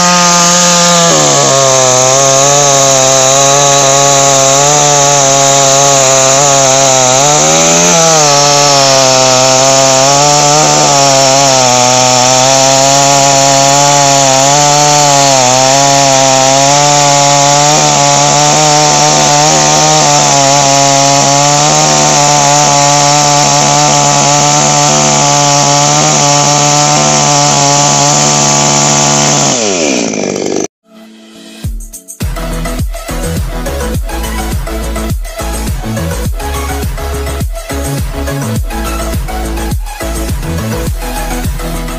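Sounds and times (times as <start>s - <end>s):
chainsaw cutting through log: 0.0s - 30.8s, 32.4s - 41.9s.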